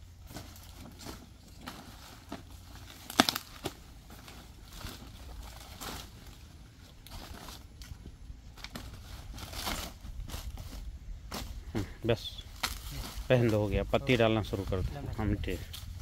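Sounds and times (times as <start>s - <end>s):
banana leaves rustling: 0.0s - 16.0s.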